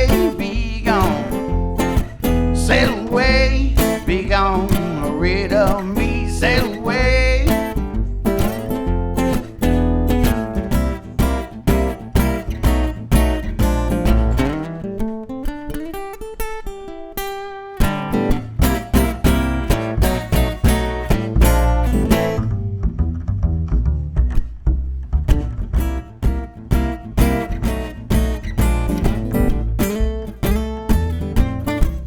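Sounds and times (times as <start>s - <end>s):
strummed acoustic guitar chords: 0.0s - 32.0s.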